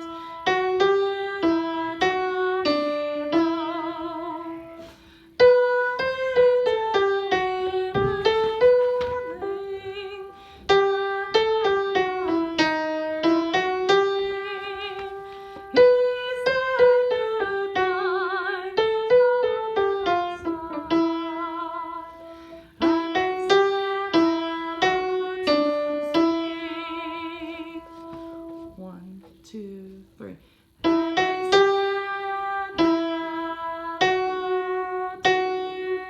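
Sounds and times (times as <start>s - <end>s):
piano melody: 0.0s - 29.2s, 30.8s - 36.0s.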